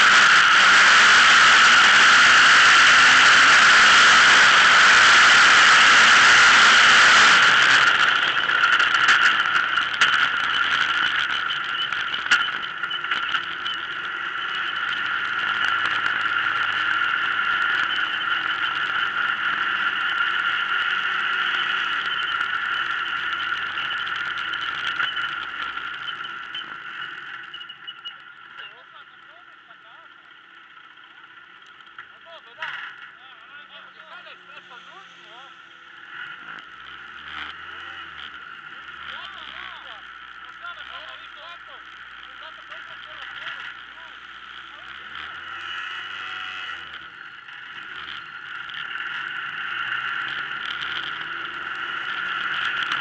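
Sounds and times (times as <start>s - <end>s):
engine high-pitched whine: 0.0s - 53.0s
sharp clicks and rattles: 0.0s - 53.0s.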